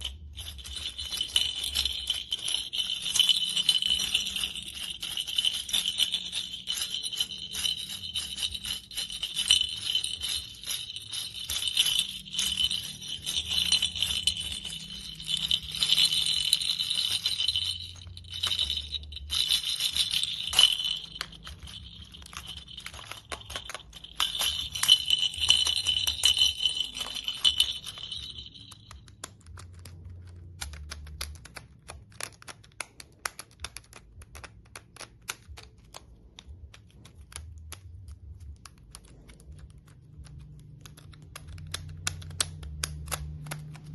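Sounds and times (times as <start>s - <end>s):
toy bells jingling: 0.0s - 32.4s, 38.2s - 43.9s.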